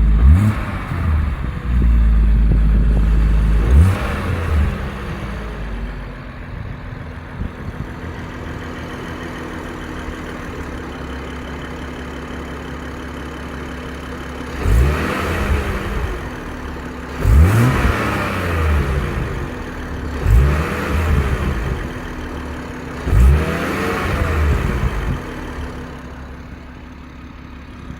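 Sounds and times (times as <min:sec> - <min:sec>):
car engine idling and revving: 0:00.0 - 0:27.9
exhaust rattle: 0:00.0 - 0:27.9.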